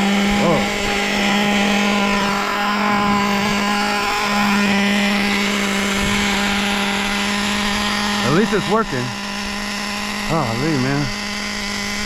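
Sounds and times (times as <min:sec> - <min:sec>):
small nitro engine idling: 0:00.0 - 0:12.0.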